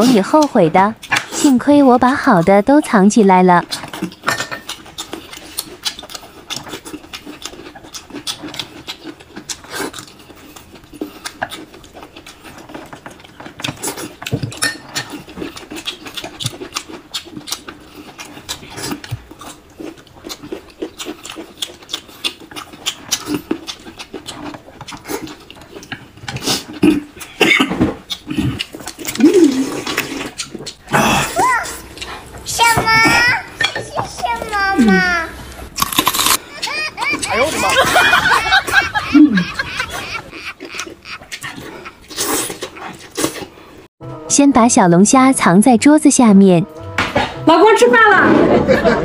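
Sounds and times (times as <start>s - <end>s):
person chewing and slurping: 3.7s - 43.9s.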